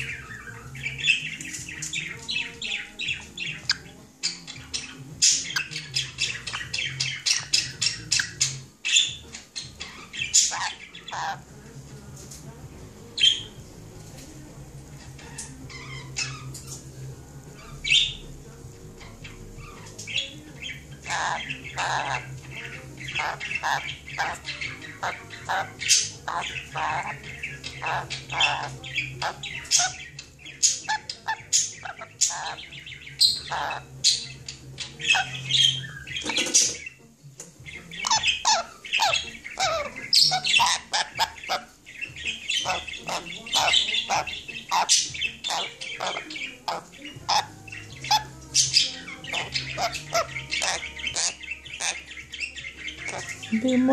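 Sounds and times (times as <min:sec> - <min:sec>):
parrot squawks and chirps: 0:00.0 - 0:11.5, 0:15.0 - 0:16.9, 0:19.0 - 0:37.0, 0:37.9 - 0:53.6.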